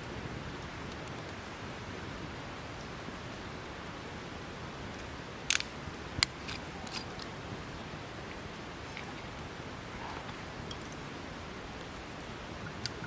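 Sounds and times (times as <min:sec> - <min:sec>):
fire crackles and pops: 0:00.0 - 0:03.2, 0:04.0 - 0:13.0.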